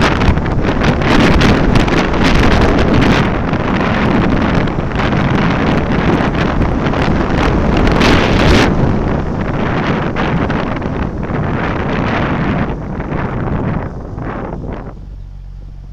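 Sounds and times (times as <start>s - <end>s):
moving vehicle noise: 0.0s - 15.9s
wind buffeting microphone: 0.0s - 15.9s.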